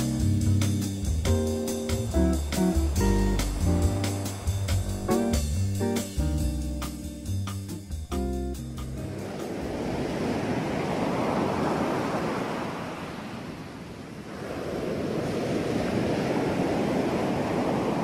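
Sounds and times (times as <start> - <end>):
ocean waves rushing: 0.0 - 6.2, 8.9 - 18.0.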